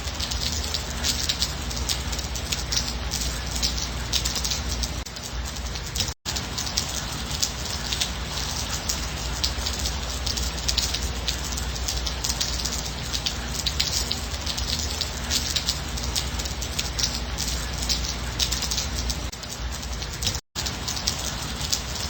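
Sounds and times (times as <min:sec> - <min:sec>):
gentle rain with ticking drops: 0:00.0 - 0:22.0.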